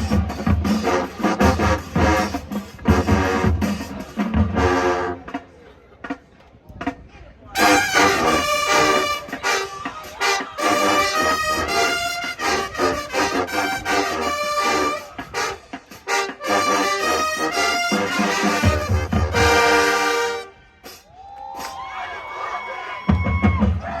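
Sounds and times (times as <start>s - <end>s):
brass band playing chords: 0.0s - 6.3s, 7.6s - 21.1s
heavy low drums: 0.0s - 20.2s.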